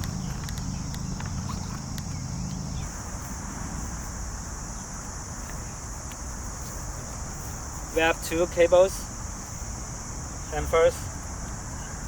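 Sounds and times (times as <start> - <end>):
crickets buzzing: 0.0 - 12.0.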